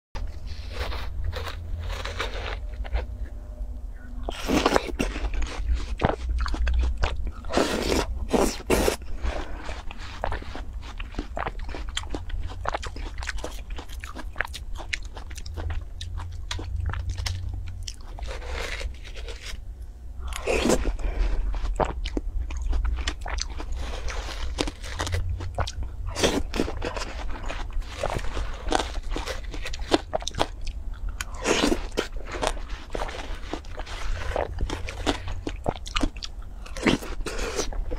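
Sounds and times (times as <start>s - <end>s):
chewing watermelon: 0.2s - 3.4s, 4.2s - 19.6s, 20.2s - 37.9s.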